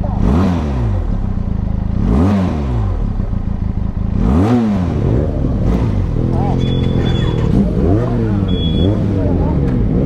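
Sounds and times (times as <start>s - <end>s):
motorcycle engine idling: 0.0s - 10.0s
motorcycle engine revving: 0.0s - 10.0s.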